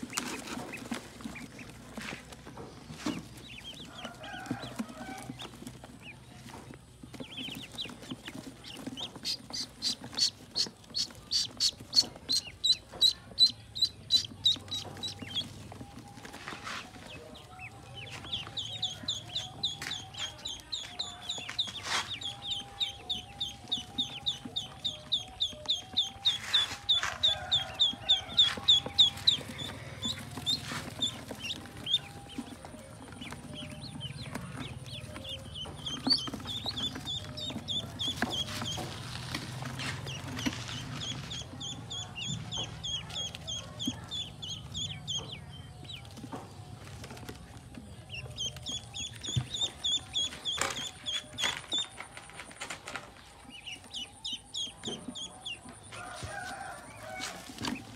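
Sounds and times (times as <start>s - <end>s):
ducklings peeping: 0.0s - 57.9s.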